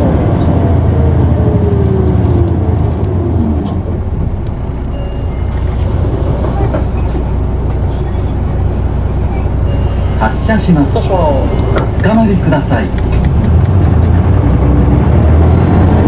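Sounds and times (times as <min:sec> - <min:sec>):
bus diesel engine: 0:00.0 - 0:16.0
road noise: 0:00.0 - 0:16.0.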